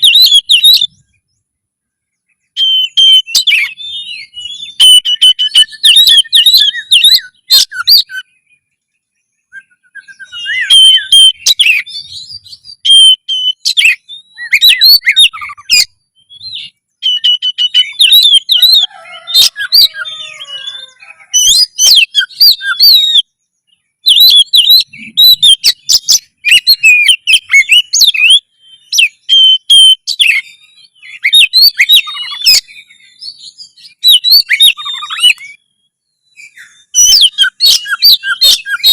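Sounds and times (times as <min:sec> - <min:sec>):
bird singing whistled phrases: 0:00.0 - 0:01.2, 0:02.3 - 0:08.7, 0:09.4 - 0:38.9.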